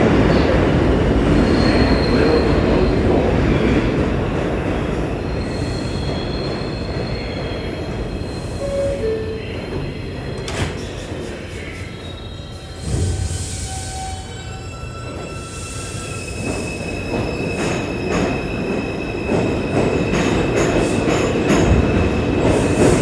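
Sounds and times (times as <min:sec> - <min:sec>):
train wheels rumbling and squealing: 0:00.0 - 0:23.0.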